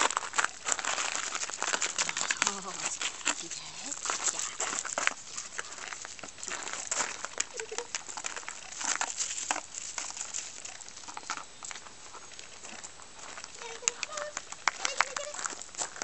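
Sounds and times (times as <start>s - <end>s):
footsteps crunching on gravel: 0.0s - 16.0s.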